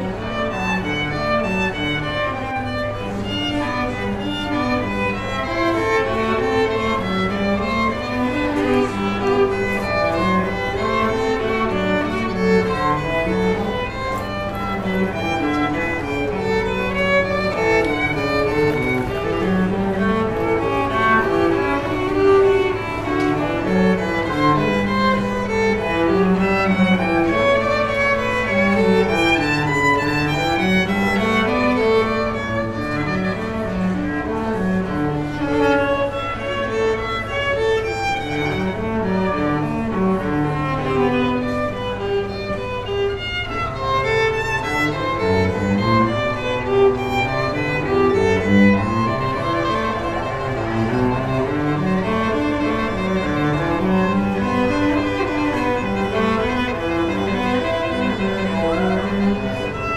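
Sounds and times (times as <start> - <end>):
string ensemble playing: 0.0 - 59.9.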